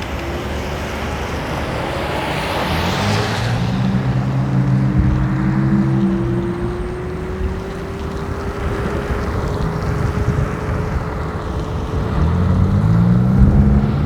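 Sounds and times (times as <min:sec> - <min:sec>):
road traffic engine hum: 0:00.0 - 0:14.0
wind and tyre noise: 0:00.0 - 0:14.0.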